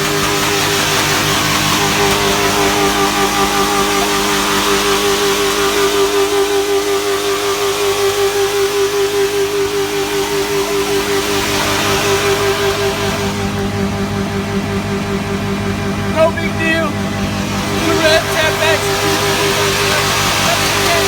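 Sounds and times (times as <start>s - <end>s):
truck engine running at high rpm: 0.0s - 21.0s.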